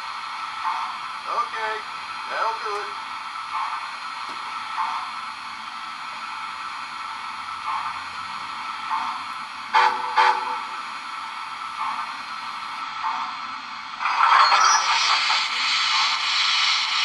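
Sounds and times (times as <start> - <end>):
model steam locomotive chuffs: 0.0 - 17.0
steady steam hiss: 0.0 - 17.0.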